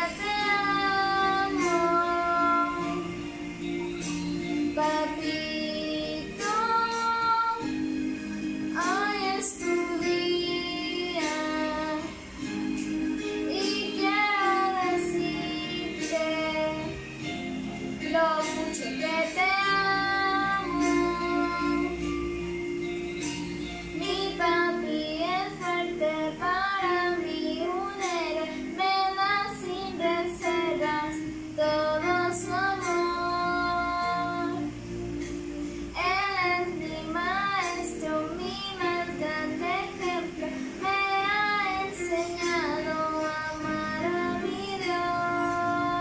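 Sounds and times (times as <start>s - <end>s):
girl singing: 0.0s - 7.9s, 8.6s - 17.4s, 18.0s - 22.3s, 23.9s - 34.8s, 35.9s - 46.0s
instrumental backing music: 0.0s - 46.0s.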